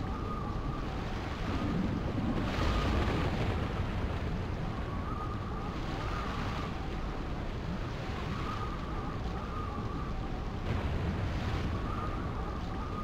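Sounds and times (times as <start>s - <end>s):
stormy wind and rushing sea: 0.0s - 13.0s.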